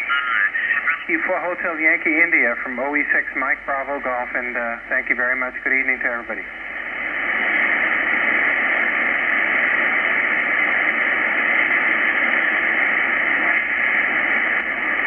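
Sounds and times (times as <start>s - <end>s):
radio band noise hiss: 0.0s - 15.0s.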